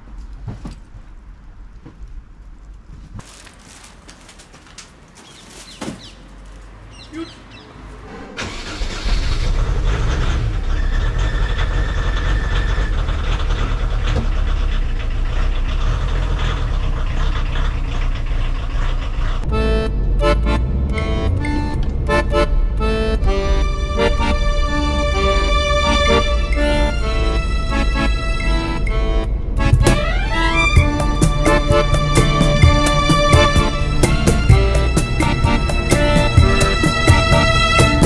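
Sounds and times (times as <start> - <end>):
van engine rumbling: 0.0 - 38.0.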